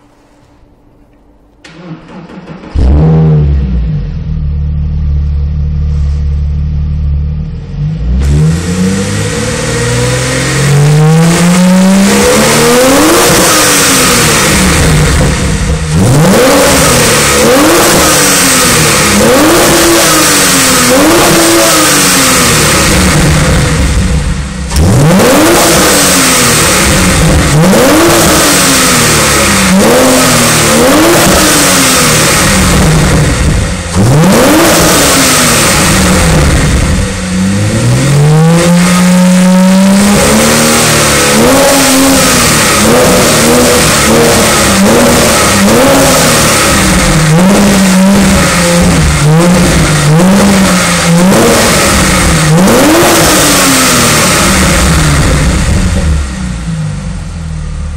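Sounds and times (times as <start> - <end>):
sports car engine revving: 1.7 - 57.9.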